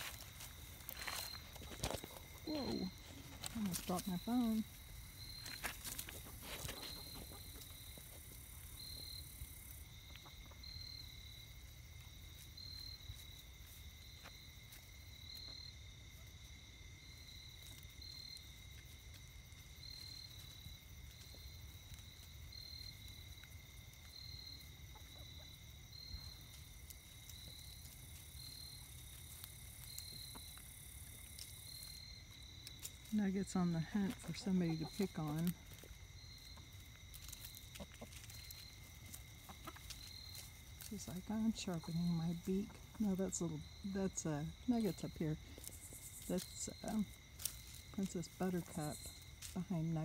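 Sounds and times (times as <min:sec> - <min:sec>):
insects chirping: 0:00.0 - 0:50.0.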